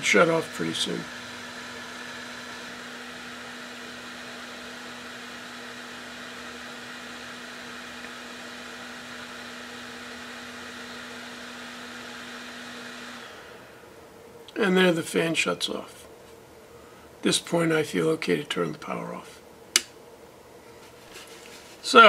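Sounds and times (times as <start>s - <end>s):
blower fan humming: 0.0s - 22.0s.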